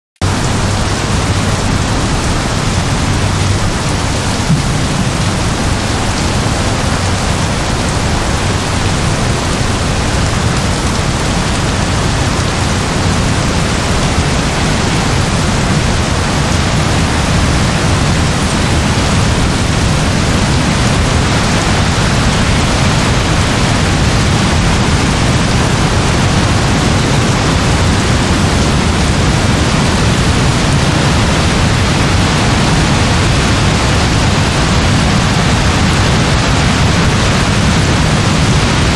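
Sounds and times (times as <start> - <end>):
heavy rain falling: 0.2 - 38.9.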